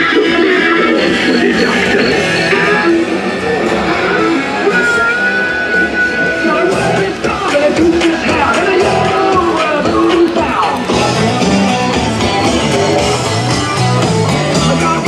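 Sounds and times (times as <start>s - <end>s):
loud rock music with electric guitar: 0.0s - 15.0s.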